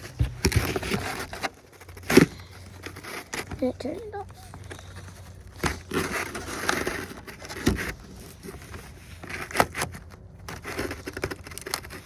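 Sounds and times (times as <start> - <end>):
scraping and rustling: 0.0 - 12.0.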